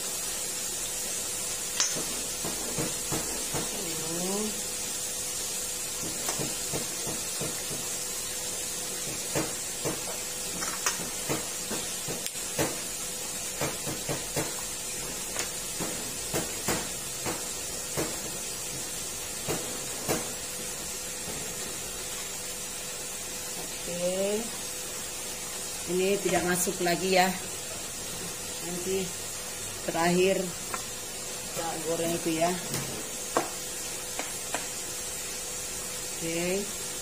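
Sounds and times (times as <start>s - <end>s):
oil sizzling with pops: 0.0s - 37.0s.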